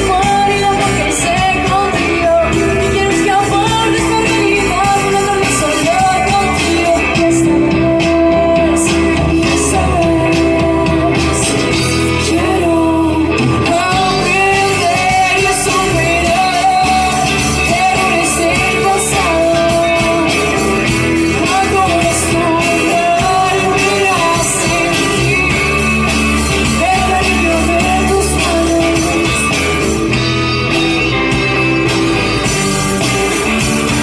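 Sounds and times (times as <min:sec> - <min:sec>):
person singing: 0:00.0 - 0:30.2
live rock band playing: 0:00.0 - 0:34.0.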